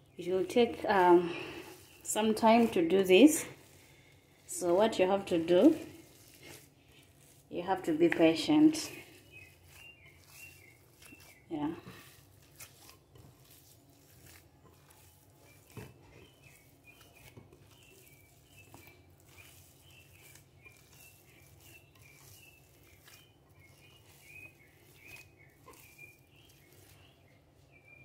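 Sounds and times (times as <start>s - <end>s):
hand squishing sticky dough: 0.0s - 28.0s
small birds chirping: 0.0s - 28.0s.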